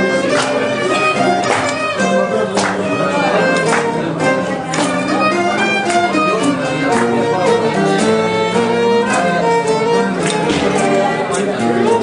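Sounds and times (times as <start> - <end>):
acoustic string ensemble playing folk tune: 0.0 - 12.0.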